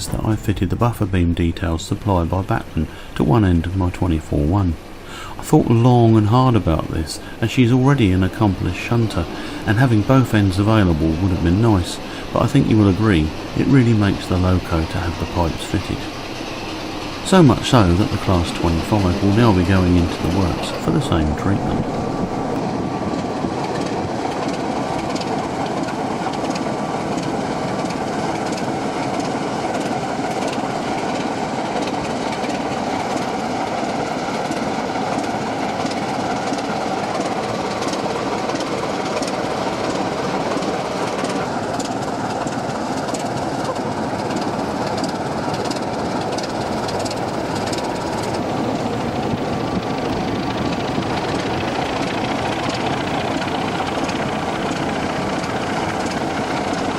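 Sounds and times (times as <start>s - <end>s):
wheels clicking over rail joints: 6.8s - 56.9s
model train motor whirring: 8.7s - 56.9s.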